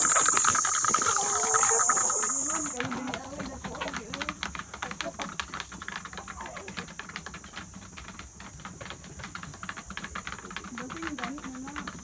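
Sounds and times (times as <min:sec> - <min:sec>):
rapid irregular clicking and tapping: 0:00.0 - 0:12.0.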